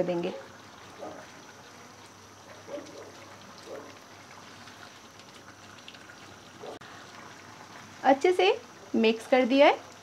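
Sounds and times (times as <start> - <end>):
thick gravy bubbling: 0.0 - 10.0.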